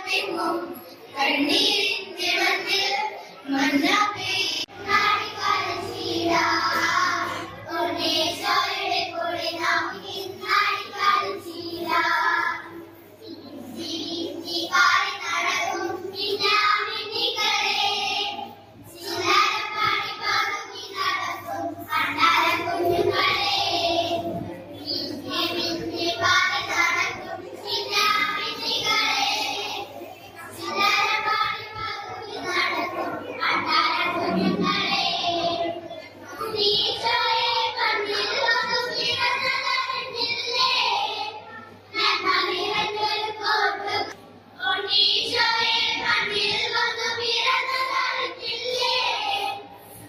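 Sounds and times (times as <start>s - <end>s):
girls singing a carol: 0.0s - 50.0s.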